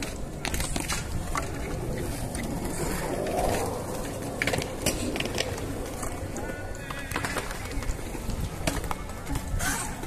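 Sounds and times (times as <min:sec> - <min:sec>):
bike tires rumbling on concrete: 0:00.0 - 0:10.0.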